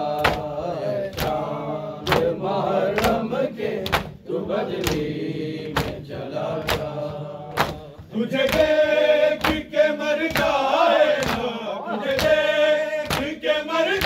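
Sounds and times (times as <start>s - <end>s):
congregation chanting a lament: 0.0s - 14.0s.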